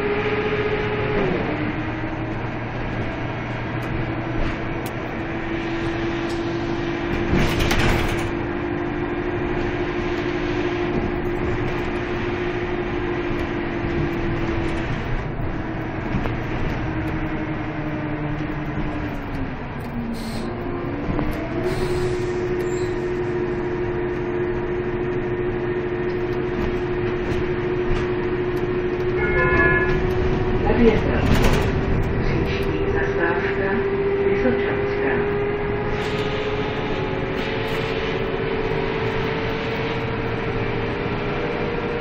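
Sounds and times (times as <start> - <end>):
bus engine drone with whine: 0.0 - 42.0.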